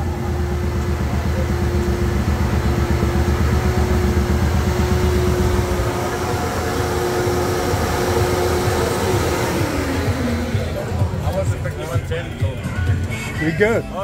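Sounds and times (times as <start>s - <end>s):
motorcycle engine idling: 0.0s - 13.2s
steady hum: 0.0s - 13.2s.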